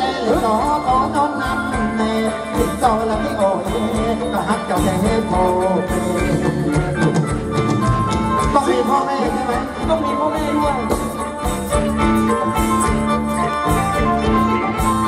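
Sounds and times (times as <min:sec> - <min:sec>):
live band dance music: 0:00.0 - 0:15.0.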